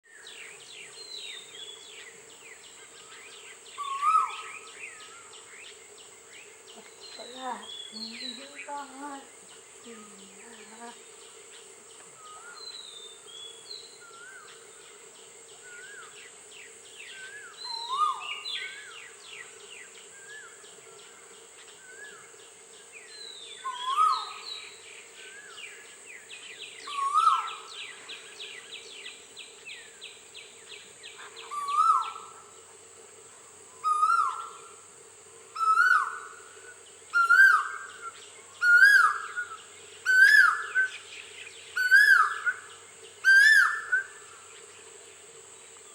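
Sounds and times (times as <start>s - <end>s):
steady insect drone: 0.0s - 45.9s
small birds chirping and trilling: 0.1s - 32.4s, 35.6s - 45.9s.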